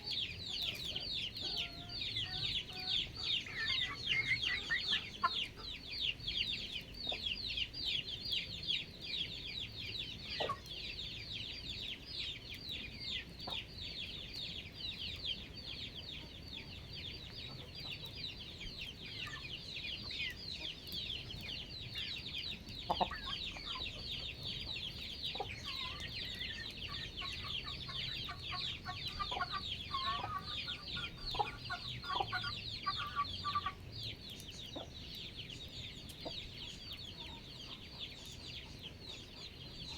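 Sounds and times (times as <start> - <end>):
chickens chirping: 0.0 - 39.9
chickens clucking: 0.0 - 39.9.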